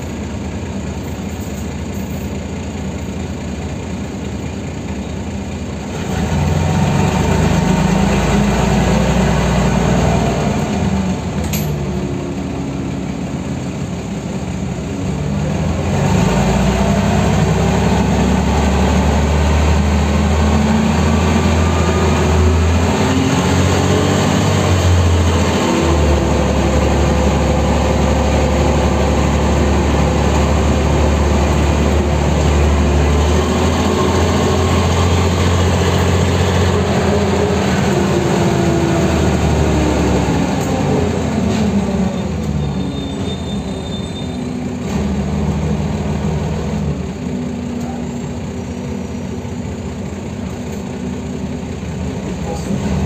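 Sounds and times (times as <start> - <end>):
bus diesel engine pulling: 0.0 - 53.0.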